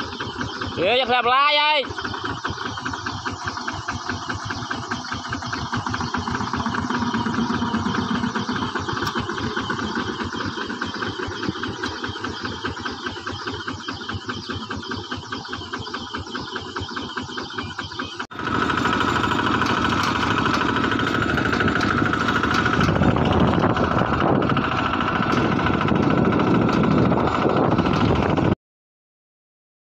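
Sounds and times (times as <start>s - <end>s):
diesel engine chugging: 0.0s - 28.6s.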